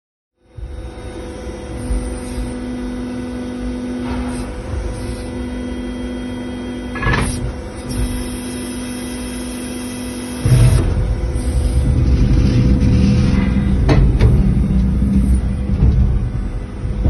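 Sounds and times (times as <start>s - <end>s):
hydraulic pump humming: 0.6s - 17.0s.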